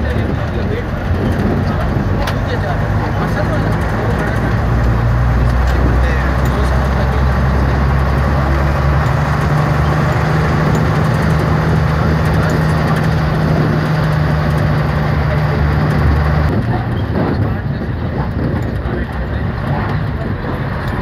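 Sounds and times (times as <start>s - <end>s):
bus engine running: 0.0s - 21.0s
road and body noise: 0.0s - 21.0s.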